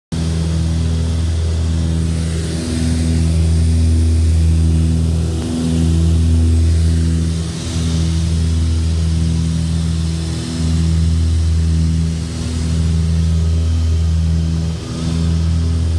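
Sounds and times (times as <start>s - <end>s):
light aircraft engine droning: 0.1s - 15.9s.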